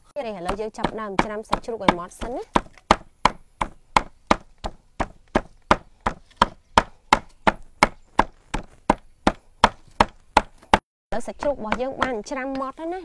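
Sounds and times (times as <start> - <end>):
cleaver chopping meat on wood: 0.4 - 10.8, 11.6 - 12.3.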